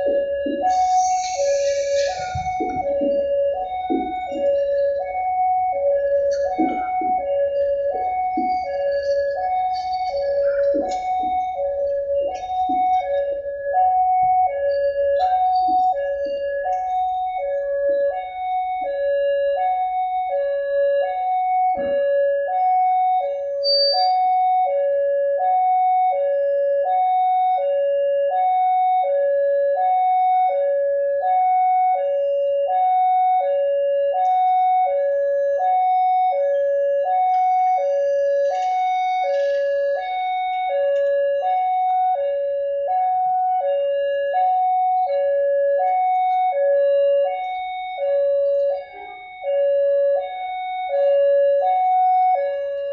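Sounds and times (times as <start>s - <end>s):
level crossing two-tone alarm: 0.0s - 52.9s.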